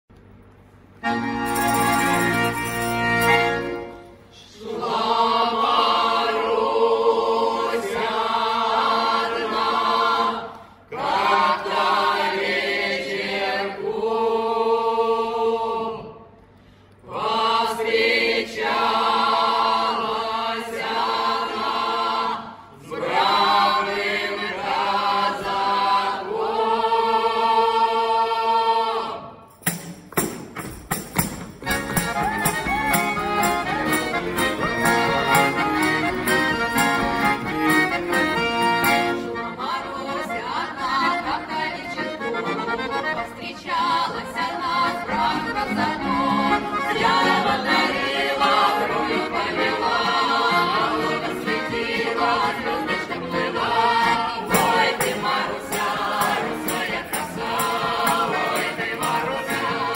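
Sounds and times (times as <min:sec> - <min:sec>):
rhythmic accordion: 0:00.8 - 0:14.6, 0:23.0 - 0:27.9, 0:29.6 - 0:59.9
mixed choir singing: 0:04.3 - 0:16.4, 0:17.0 - 0:29.5, 0:32.1 - 0:59.9.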